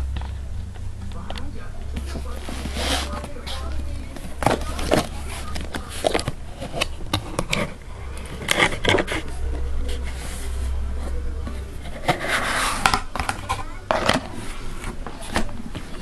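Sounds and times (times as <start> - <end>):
handling clicks and scrapes: 0.0 - 16.0
low steady hum: 0.0 - 16.0
rustling: 0.0 - 16.0.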